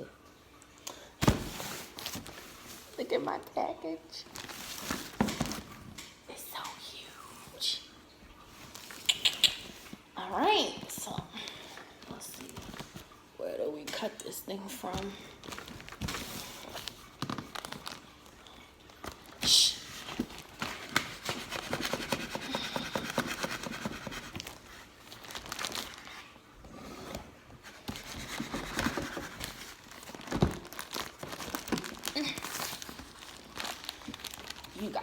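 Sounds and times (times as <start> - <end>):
cardboard crinkling and rustling: 1.2 - 3.4, 4.2 - 6.0, 8.6 - 13.2, 14.8 - 35.0.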